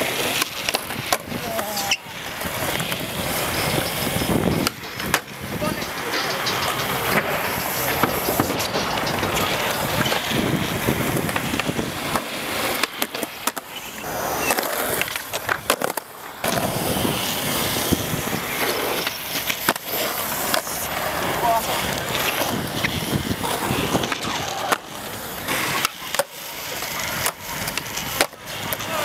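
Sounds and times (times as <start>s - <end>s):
skateboard clacks and knocks: 0.0s - 29.0s
skateboard wheels rolling on concrete: 0.0s - 29.0s.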